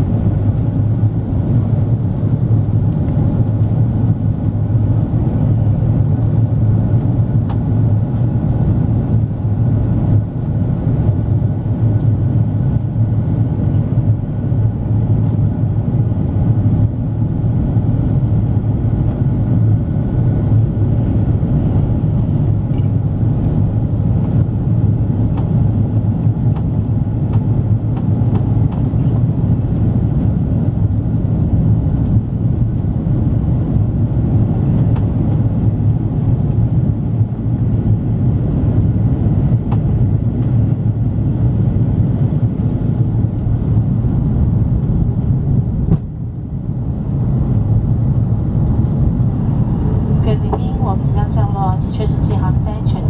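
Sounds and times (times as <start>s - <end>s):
airliner cabin engine rumble: 0.0s - 53.0s.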